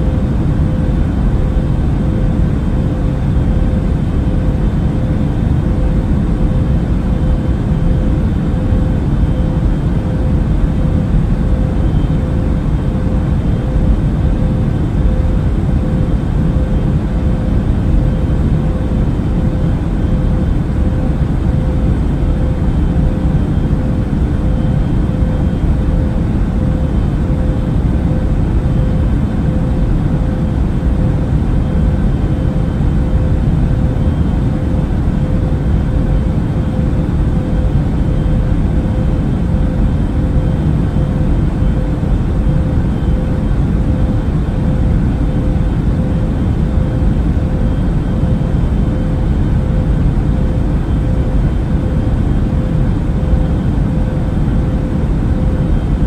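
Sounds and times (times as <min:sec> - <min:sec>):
faint hum: 0:00.0 - 0:56.0
jet engine and airflow drone: 0:00.0 - 0:56.0.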